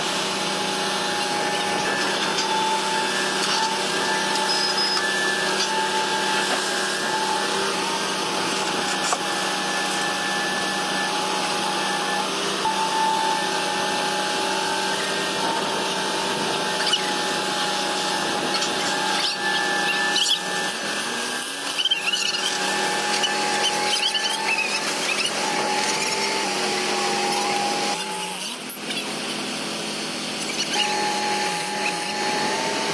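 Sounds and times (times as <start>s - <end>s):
machine high whine: 0.0s - 32.9s.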